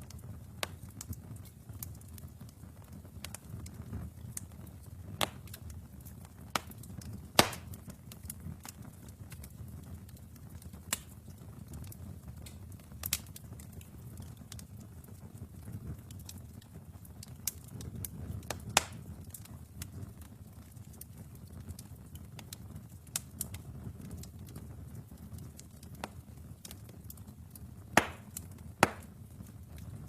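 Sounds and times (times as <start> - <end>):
low rumble of fire: 0.0 - 30.0
sharp fire pops: 0.0 - 30.0
small fire crackles: 0.0 - 30.0.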